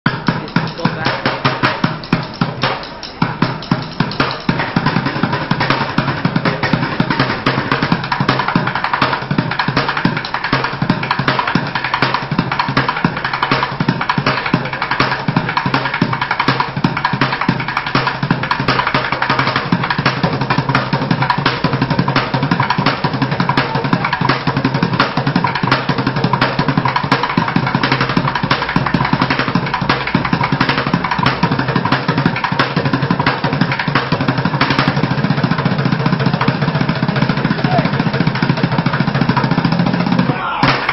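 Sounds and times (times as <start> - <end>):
street drummer drumming fast: 0.0 - 40.9.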